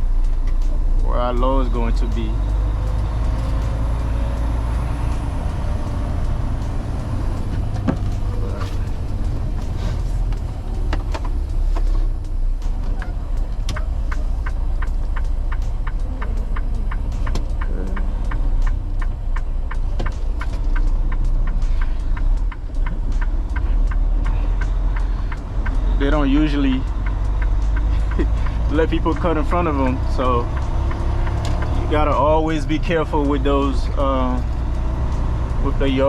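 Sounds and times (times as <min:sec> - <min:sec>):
regular ticking: 0:00.0 - 0:36.0
truck engine rumbling: 0:00.0 - 0:36.0.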